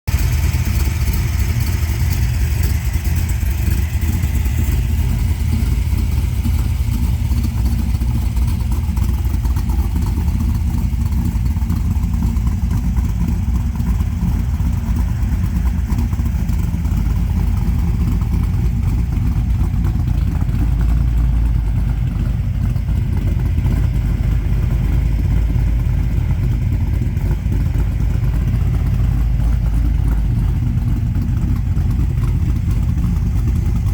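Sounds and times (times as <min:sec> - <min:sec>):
engine idling with deep exhaust: 0:00.0 - 0:33.9.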